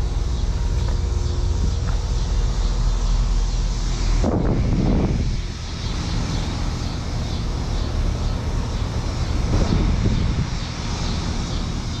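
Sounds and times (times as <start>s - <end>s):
heat pump running: 0.0s - 12.0s.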